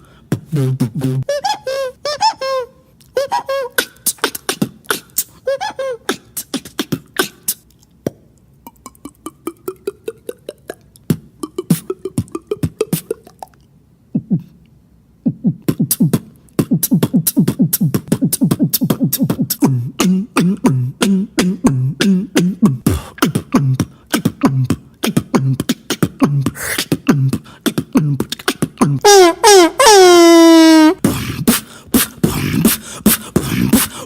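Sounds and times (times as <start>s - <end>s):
beatboxing: 0.0s - 34.0s.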